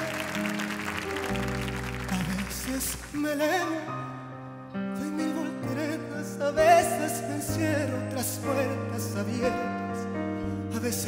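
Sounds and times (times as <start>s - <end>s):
man singing with vibrato: 2.1s - 11.0s.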